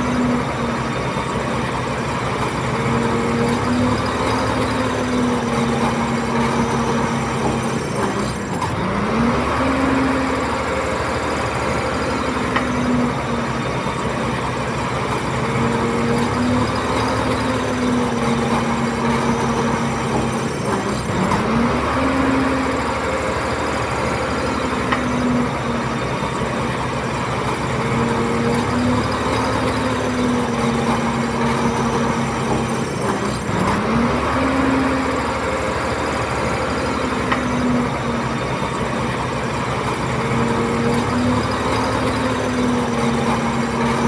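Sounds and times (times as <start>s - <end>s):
bulldozer diesel engine running: 0.0s - 44.0s.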